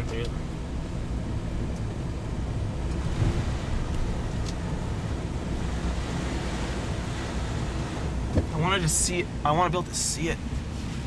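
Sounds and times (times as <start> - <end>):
car engine and road noise: 0.0 - 11.0
rain and wind on car: 0.0 - 11.0.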